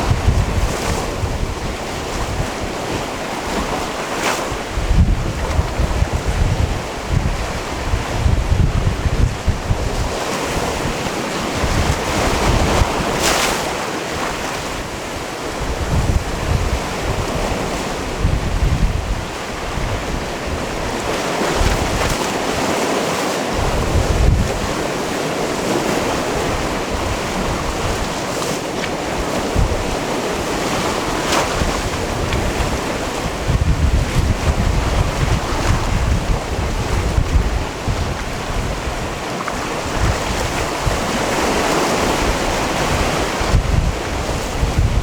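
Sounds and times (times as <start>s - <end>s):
wind buffeting microphone: 0.0s - 22.9s, 23.5s - 45.0s
sea waves on rocky shore: 0.0s - 45.0s.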